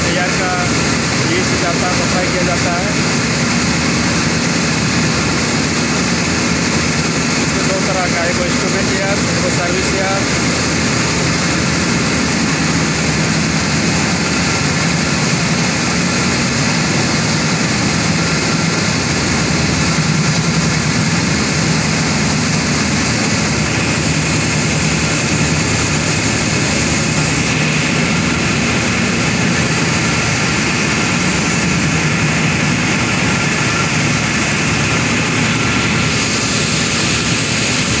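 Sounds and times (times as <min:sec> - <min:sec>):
air compressors droning: 0:00.0 - 0:38.0.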